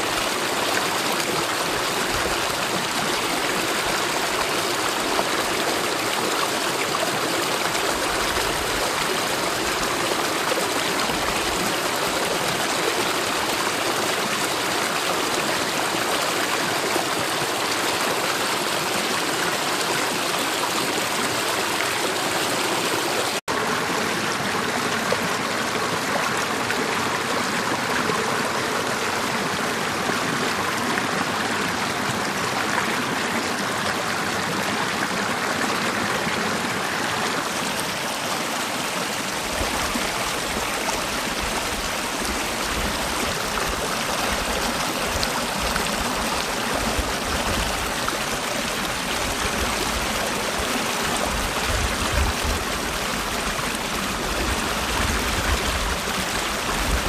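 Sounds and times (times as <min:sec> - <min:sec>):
stream rushing: 0:00.0 - 0:57.0.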